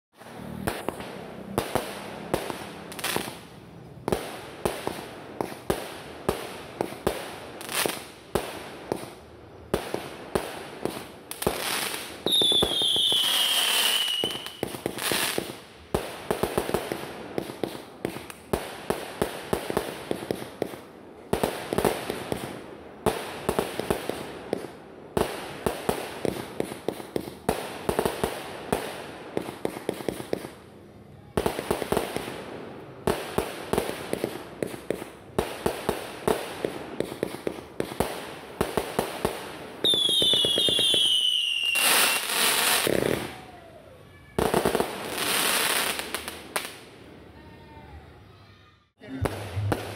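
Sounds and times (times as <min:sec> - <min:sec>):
fireworks bangs and pops: 0:00.2 - 0:30.6, 0:31.3 - 0:43.6, 0:44.3 - 0:46.8, 0:49.1 - 0:49.9.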